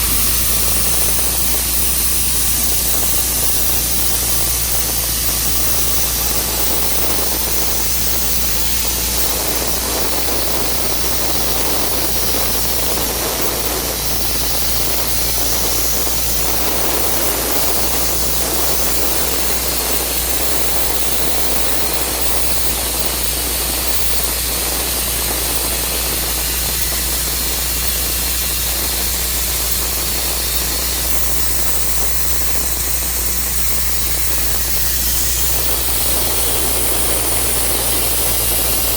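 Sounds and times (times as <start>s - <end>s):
sawmill cutting log: 0.0s - 38.9s.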